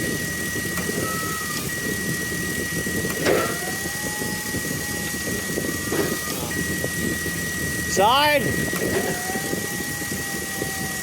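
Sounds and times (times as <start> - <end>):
pickup engine idling: 0.0 - 9.9
thin high whine: 0.0 - 11.0.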